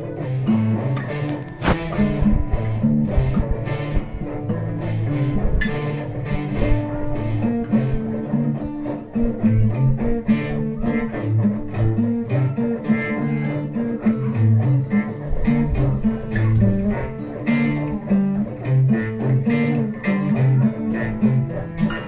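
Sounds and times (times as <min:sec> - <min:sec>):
instrumental guitar music: 0:00.0 - 0:22.0.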